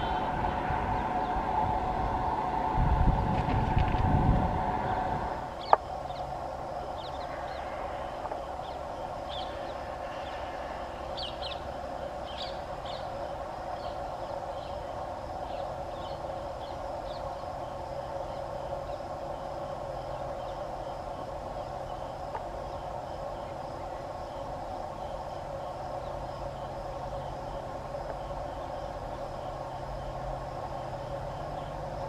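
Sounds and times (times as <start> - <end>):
distant diesel locomotive rumble: 0.0 - 32.0
birds chirping: 4.8 - 32.0.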